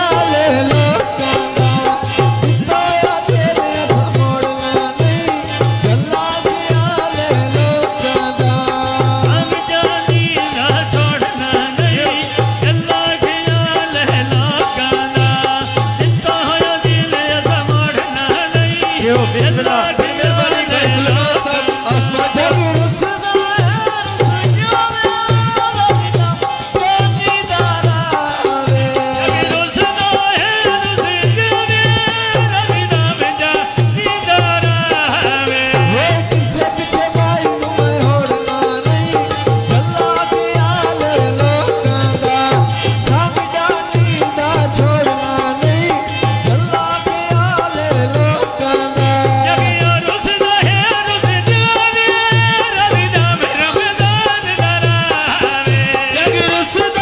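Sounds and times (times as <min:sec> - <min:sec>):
drum beating steady rhythm: 0:00.0 - 0:57.0
fast rattling percussion: 0:00.0 - 0:57.0
men singing: 0:00.0 - 0:57.0.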